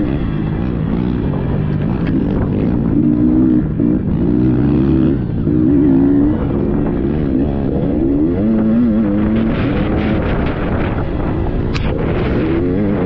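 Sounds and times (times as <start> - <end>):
dirt bike engine revving: 0.0 - 13.0
low rumble: 0.0 - 13.0.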